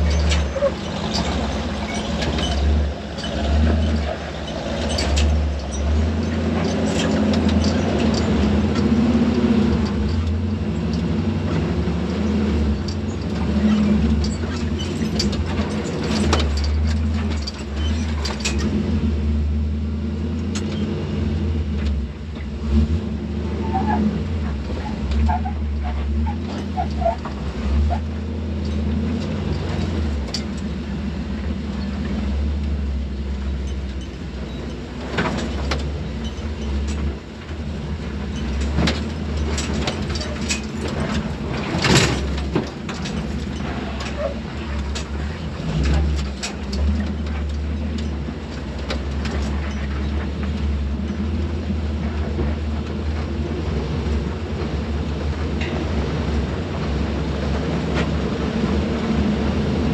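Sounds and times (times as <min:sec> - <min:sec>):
knocks and rattles: 0:00.0 - 0:18.8, 0:24.4 - 0:59.9
vehicle engine and road rumble: 0:00.0 - 0:59.9.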